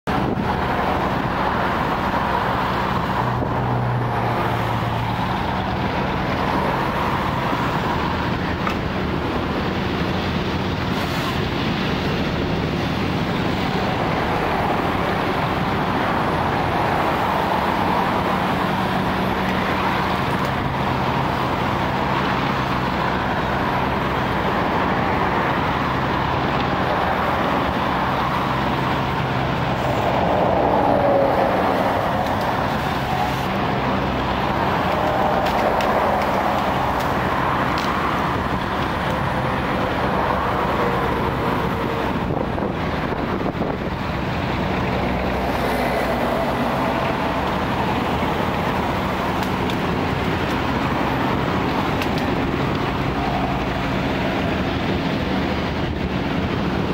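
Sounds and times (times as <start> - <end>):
road traffic noise: 0.0 - 56.9
truck engine running: 0.1 - 56.9.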